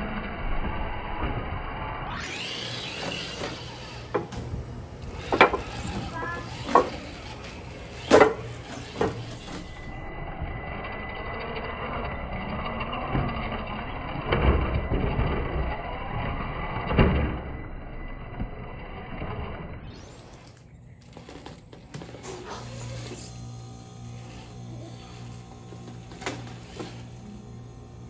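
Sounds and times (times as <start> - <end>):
electric motor and gears whirring: 0.0 - 28.0.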